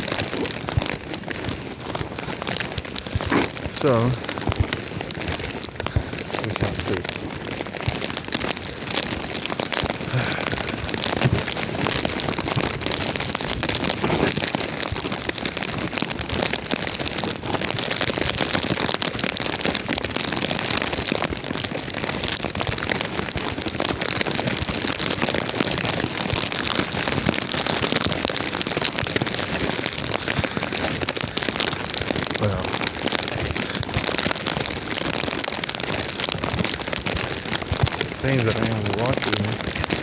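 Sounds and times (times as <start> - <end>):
small crackles: 0.0 - 40.0.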